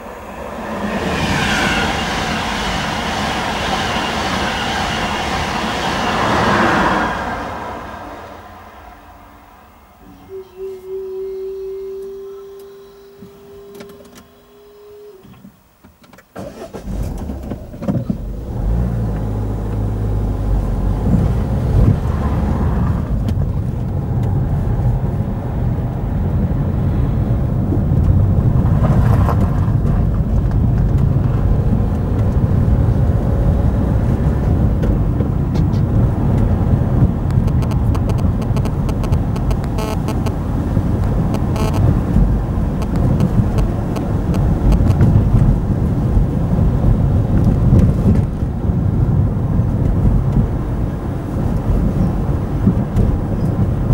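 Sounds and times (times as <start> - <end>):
car engine: 0.0 - 10.5, 11.3 - 15.5, 16.4 - 53.9.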